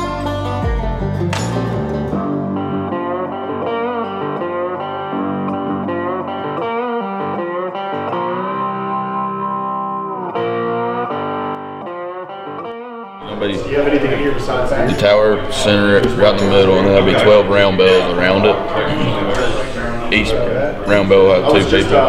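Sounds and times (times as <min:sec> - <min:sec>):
guitar music with bending notes: 0:00.0 - 0:22.0.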